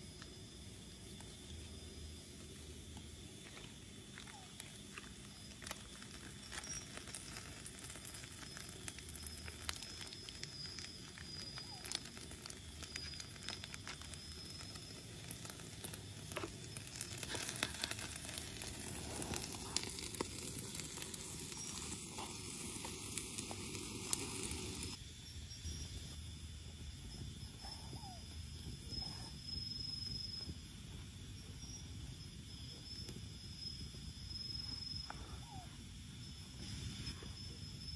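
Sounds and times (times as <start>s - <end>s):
fire crackling and sizzling: 0.0s - 37.9s.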